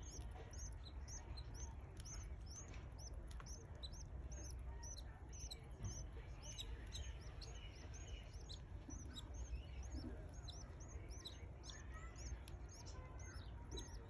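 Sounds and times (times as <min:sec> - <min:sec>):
chicks cheeping: 0:00.0 - 0:14.0
steady low hum: 0:00.0 - 0:14.0.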